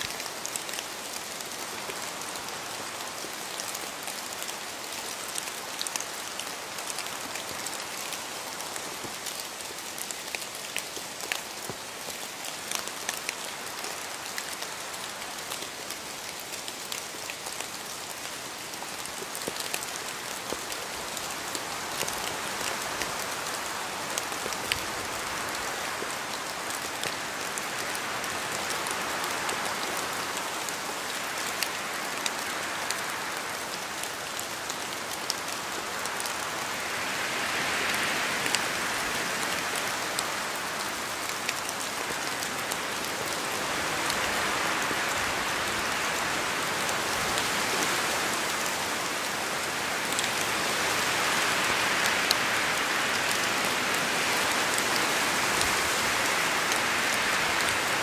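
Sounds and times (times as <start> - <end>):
rain falling: 0.0 - 58.0
raindrops pattering: 0.0 - 58.0.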